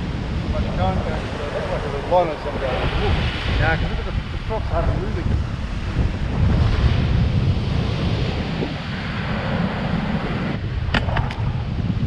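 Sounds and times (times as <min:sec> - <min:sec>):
breaking surf: 0:00.0 - 0:11.7
wind buffeting microphone: 0:00.0 - 0:12.0.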